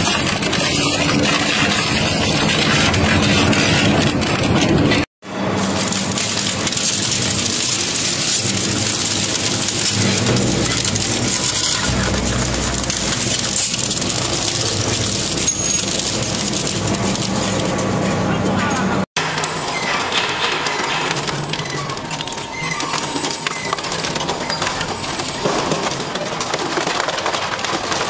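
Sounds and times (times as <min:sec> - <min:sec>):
shredder crunching metal: 0:00.0 - 0:28.0.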